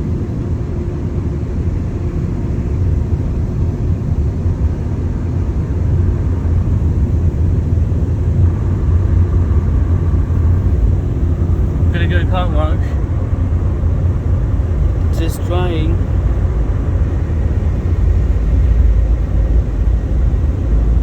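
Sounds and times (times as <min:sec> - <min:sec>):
car wash dryer blowers rumbling: 0:00.0 - 0:21.0.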